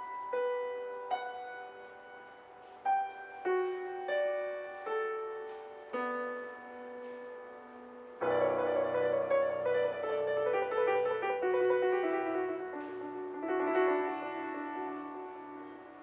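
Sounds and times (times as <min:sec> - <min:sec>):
classical piano playing: 0:00.0 - 0:16.0.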